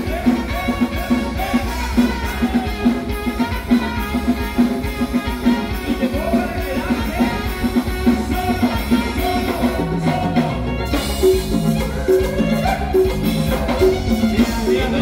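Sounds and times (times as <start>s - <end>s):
band playing latin dance music: 0.0s - 15.0s
drum kit: 0.0s - 15.0s
electric bass: 0.0s - 15.0s.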